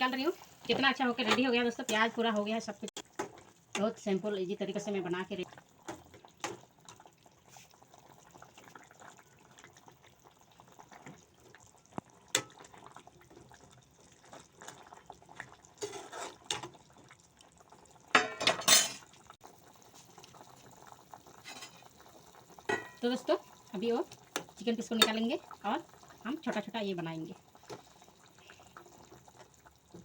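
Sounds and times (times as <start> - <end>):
soup bubbling in pot: 2.1 - 30.0.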